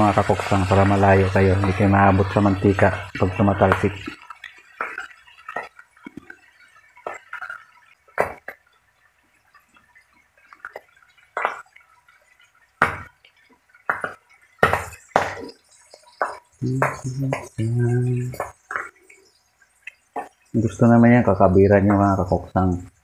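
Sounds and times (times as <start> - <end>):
oil popping and spitting: 0.0 - 20.8
fish sizzling in oil: 0.0 - 23.0.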